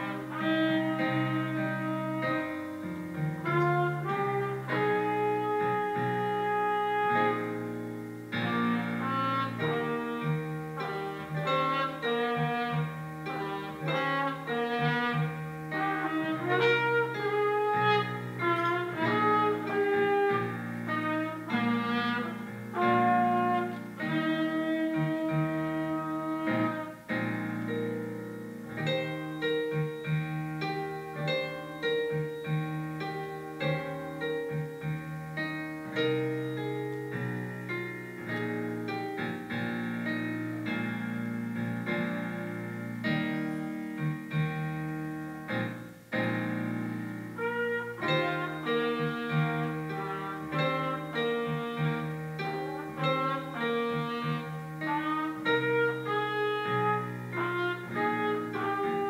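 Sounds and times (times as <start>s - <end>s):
piano accompaniment: 0.0s - 59.0s
solo trumpet: 0.0s - 59.0s.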